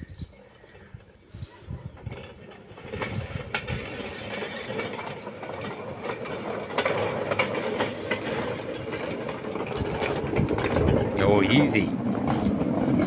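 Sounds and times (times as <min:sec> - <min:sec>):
metal wheels rolling on rails: 0:00.0 - 0:13.0.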